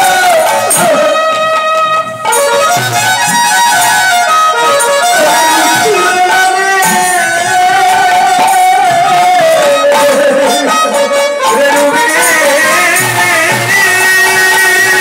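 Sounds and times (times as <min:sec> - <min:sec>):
percussion strikes: 0:00.0 - 0:15.0
sliding held melody: 0:00.0 - 0:15.0.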